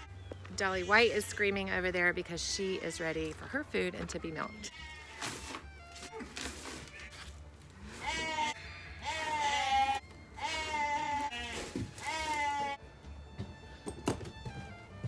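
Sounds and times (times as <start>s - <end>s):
lambs bleating: 0.0s - 3.4s, 4.0s - 12.8s.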